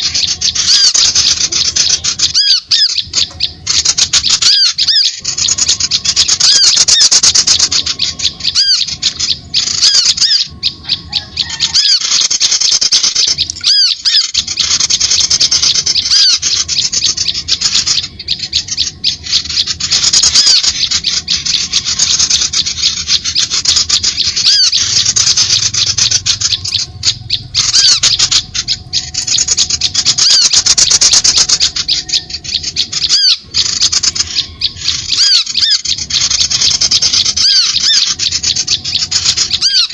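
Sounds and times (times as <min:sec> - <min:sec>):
small birds chattering and squawking: 0:00.0 - 0:39.9.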